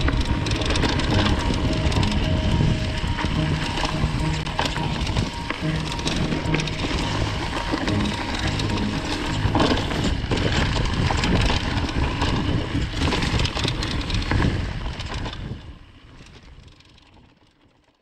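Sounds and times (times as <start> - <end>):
mountain bike rumble and rattle: 0.0 - 18.0.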